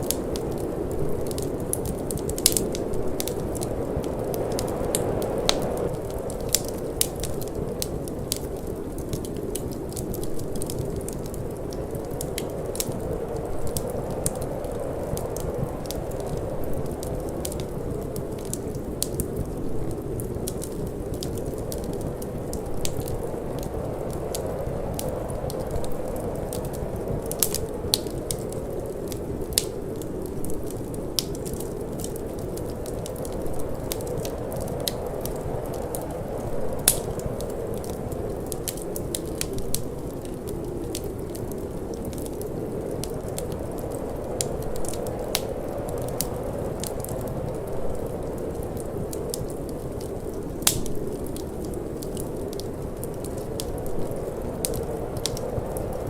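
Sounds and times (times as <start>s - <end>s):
low rush of wind: 0.0s - 56.0s
wood fire crackling and popping: 0.0s - 56.0s.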